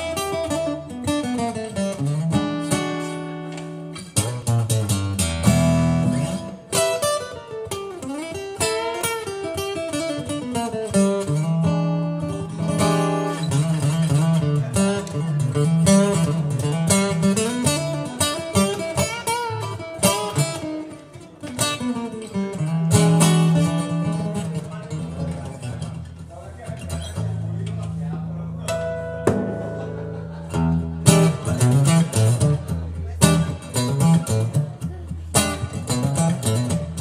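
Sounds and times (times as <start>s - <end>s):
acoustic guitar blues: 0.0s - 37.0s.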